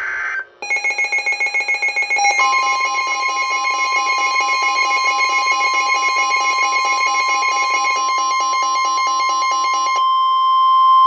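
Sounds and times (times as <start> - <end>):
rapid pulsing alarm beeps: 0.6 - 10.0
steady piercing alarm tone: 0.6 - 10.2.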